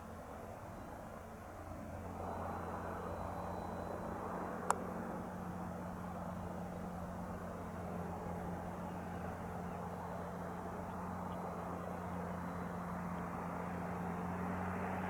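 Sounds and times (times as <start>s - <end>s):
propeller plane engine running: 0.0s - 15.0s.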